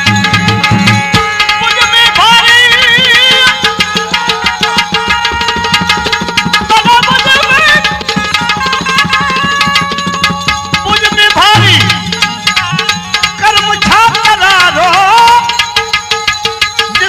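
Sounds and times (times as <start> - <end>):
held melodic notes: 0.0 - 17.0
tabla playing quick rhythm: 0.0 - 17.0.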